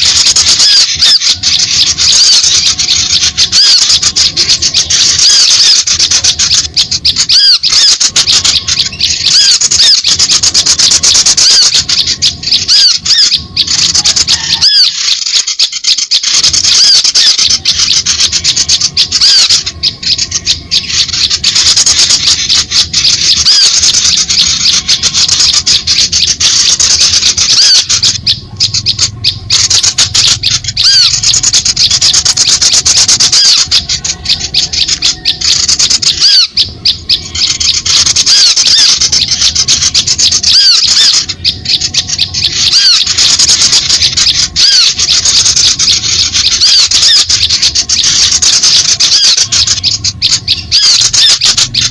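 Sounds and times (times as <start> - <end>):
songbirds scolding and chirping: 0.0 - 51.9.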